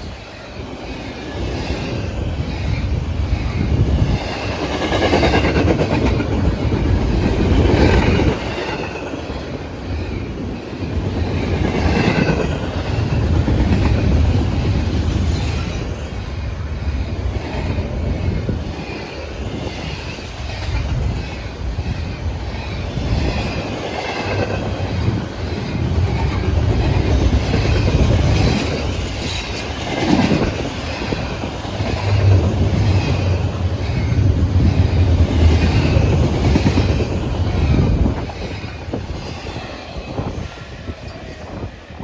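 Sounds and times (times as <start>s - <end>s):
freight train rumbling past: 0.0s - 42.0s
train wheels clickety-clack: 0.0s - 42.0s.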